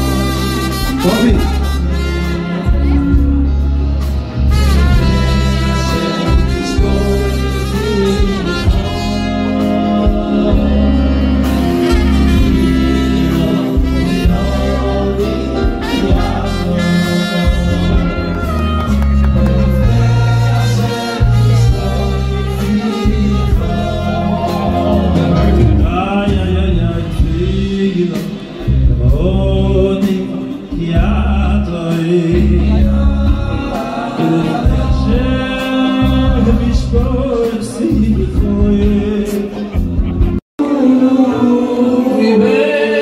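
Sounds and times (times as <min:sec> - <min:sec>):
man singing into a microphone: 0:00.0 - 0:03.8, 0:04.7 - 0:18.4, 0:19.5 - 0:40.0
live band with heavy bass: 0:00.0 - 0:43.0.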